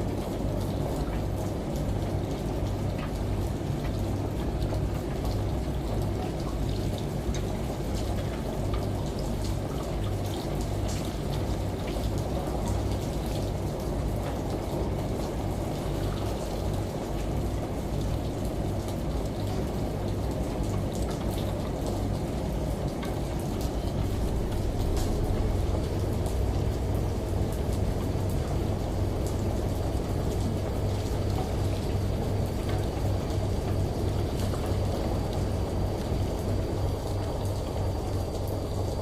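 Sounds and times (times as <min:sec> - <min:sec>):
rain and shower water: 0:00.0 - 0:39.0
washing machine hum: 0:00.0 - 0:39.0.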